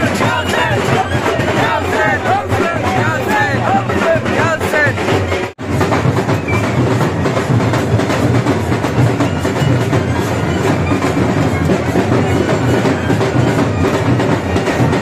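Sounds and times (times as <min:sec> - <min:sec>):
dhol drums beating fast: 0:00.0 - 0:15.0.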